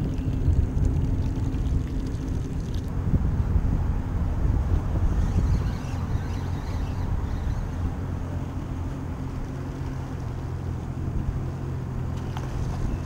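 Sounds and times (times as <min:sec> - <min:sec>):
boat engine low hum: 0:00.0 - 0:13.0
water noise: 0:00.0 - 0:13.0.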